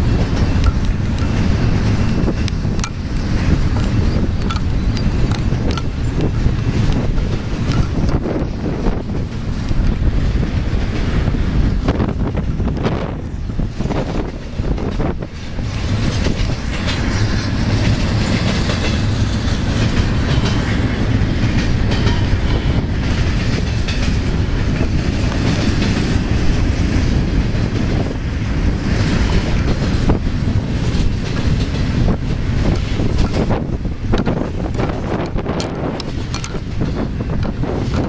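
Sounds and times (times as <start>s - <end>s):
freight train rumbling past: 0.0s - 38.0s
wheels clicking over rail joints: 0.0s - 38.0s.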